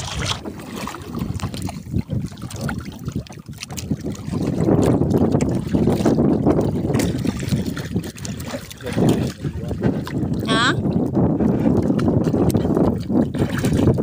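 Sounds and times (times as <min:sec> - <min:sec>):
swimmer churning water: 0:00.0 - 0:14.0
water sloshing against boat: 0:00.0 - 0:14.0.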